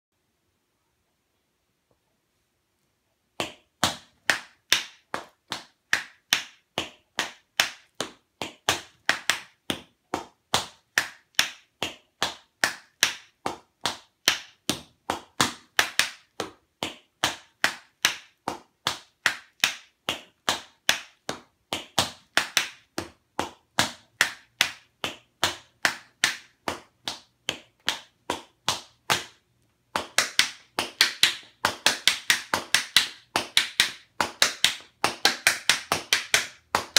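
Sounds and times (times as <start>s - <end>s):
tap shoes on tile floor: 3.4s - 36.9s.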